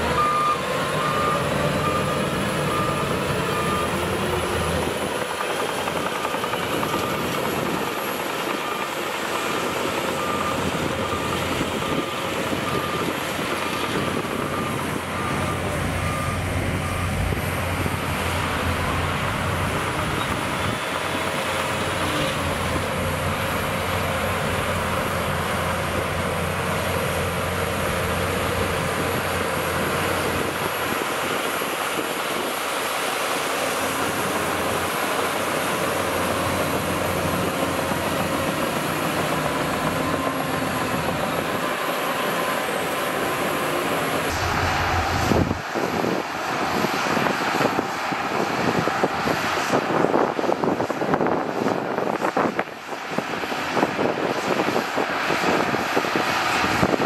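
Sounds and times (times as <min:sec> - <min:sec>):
bulldozer engines running: 0:00.0 - 0:57.0.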